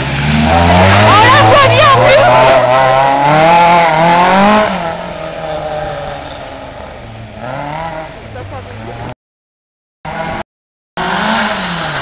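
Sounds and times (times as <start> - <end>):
car engine revving hard: 0.0 - 9.2, 10.1 - 10.4, 11.0 - 12.0
distant car engine: 0.0 - 9.2, 11.0 - 12.0.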